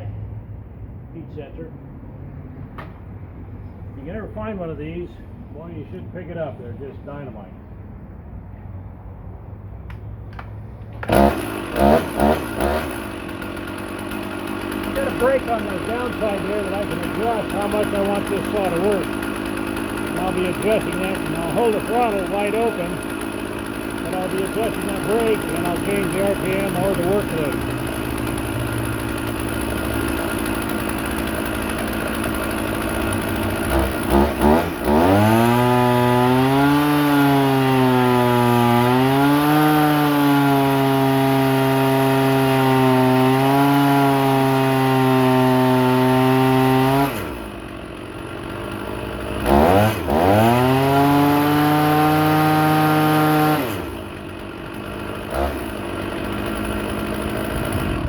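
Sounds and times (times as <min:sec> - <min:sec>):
chainsaw engine running under load: 0:09.6 - 0:58.0.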